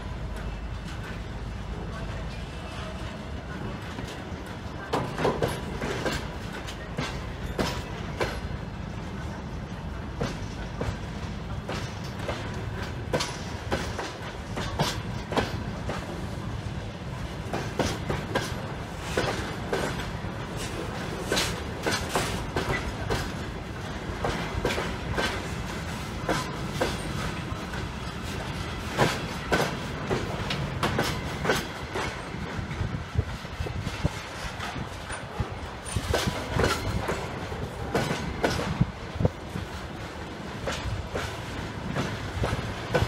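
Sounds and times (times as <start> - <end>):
freight train rumble: 0.0 - 43.0
wheel clacks over rail joints: 3.8 - 8.6, 9.7 - 16.2, 17.4 - 43.0.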